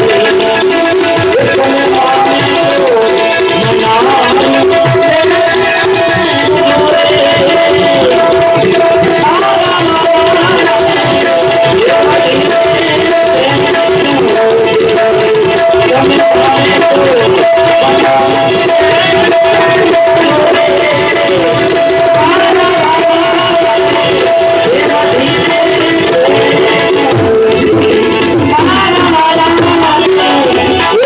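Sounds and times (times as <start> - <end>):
tabla rhythm: 0.0 - 31.0.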